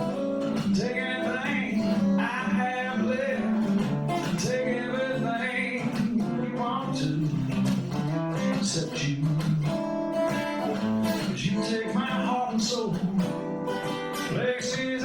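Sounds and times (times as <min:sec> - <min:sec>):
acoustic guitar country song: 0:00.0 - 0:15.0.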